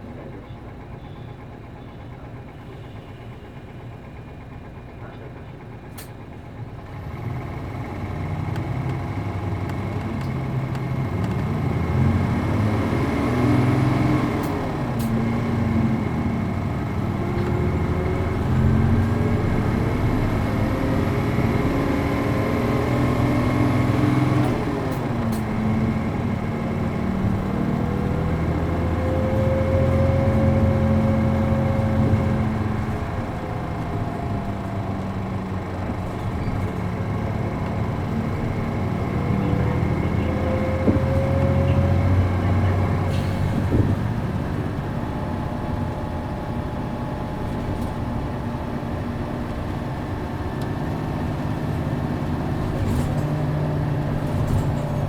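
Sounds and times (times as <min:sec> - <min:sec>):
bus diesel engine pulling hard: 0:00.0 - 0:55.0.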